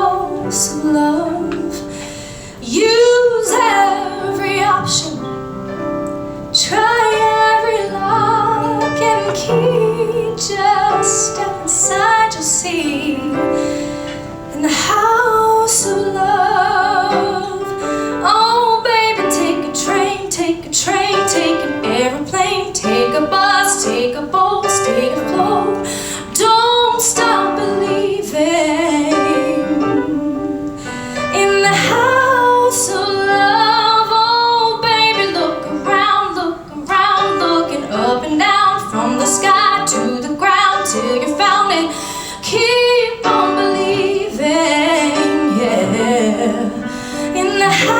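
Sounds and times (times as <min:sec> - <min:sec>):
woman singing: 0:00.0 - 0:05.4, 0:06.6 - 0:47.9.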